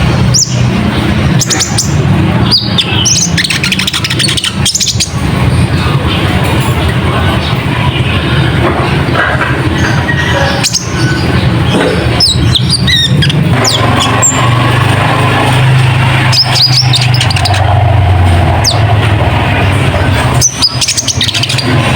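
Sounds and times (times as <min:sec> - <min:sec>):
high bird chirps: 0:00.0 - 0:08.4, 0:09.7 - 0:21.9
loud low hum: 0:00.0 - 0:21.9.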